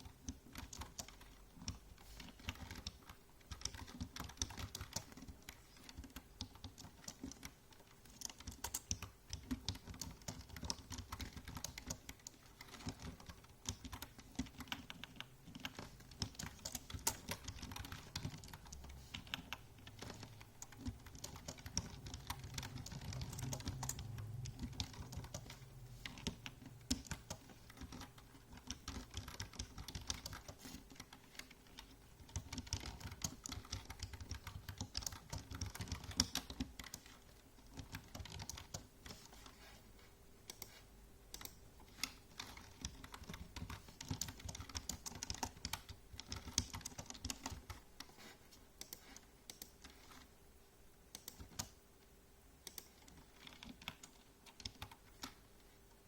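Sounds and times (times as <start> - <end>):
keyboard typing clicks: 0.0 - 39.6, 40.4 - 48.1, 48.8 - 50.3, 51.1 - 51.8, 52.6 - 55.4.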